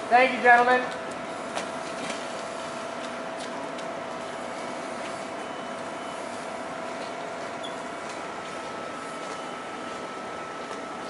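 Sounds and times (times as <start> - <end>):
mechanical hum with high whine: 0.0 - 11.0.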